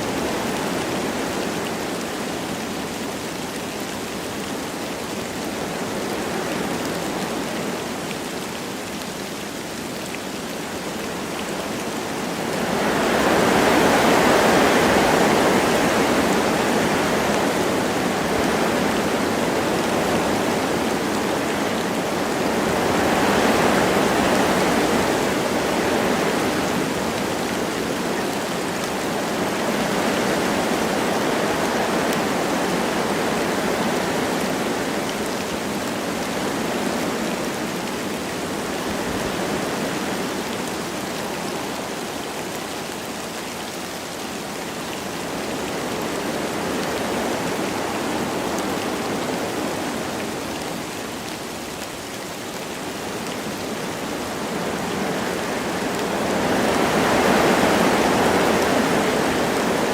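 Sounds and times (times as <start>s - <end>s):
light rain falling: 0.0s - 59.9s
wind through trees: 0.0s - 59.9s.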